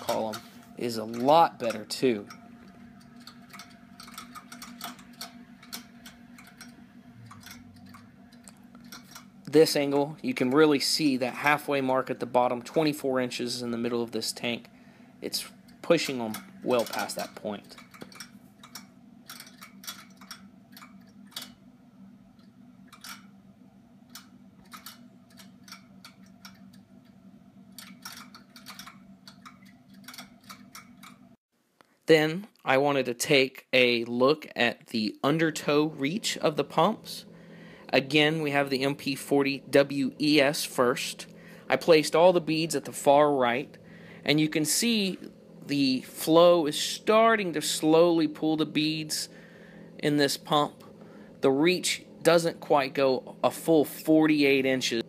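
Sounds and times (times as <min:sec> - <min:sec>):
faint steady low hum: 0:00.0 - 0:55.0.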